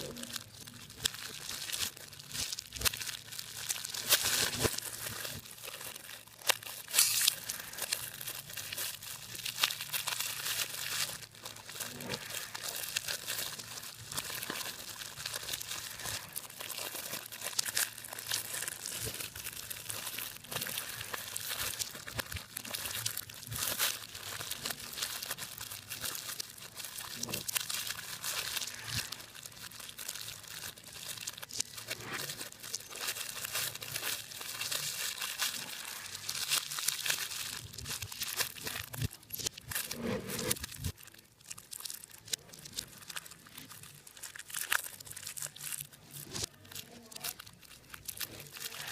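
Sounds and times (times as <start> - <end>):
hands crumpling crackly material: 0.0 - 48.9.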